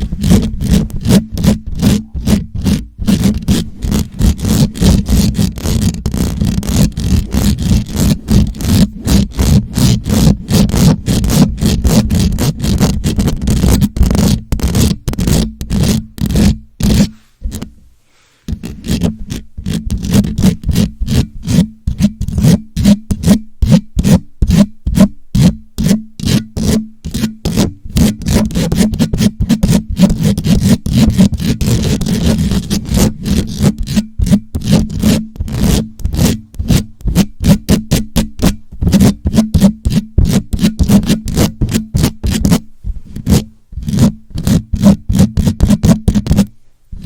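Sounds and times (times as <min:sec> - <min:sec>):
microphone being scratched: 0:00.0 - 0:47.0.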